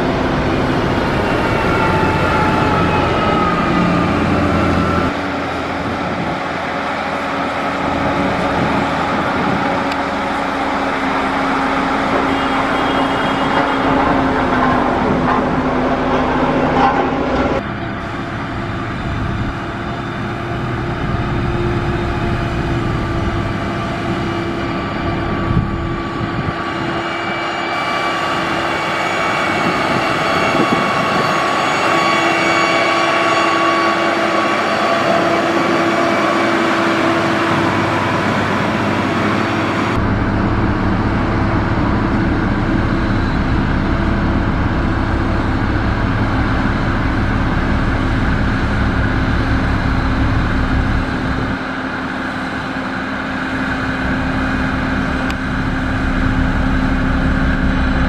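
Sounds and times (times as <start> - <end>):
diesel machinery running with whine: 0.0 - 58.0.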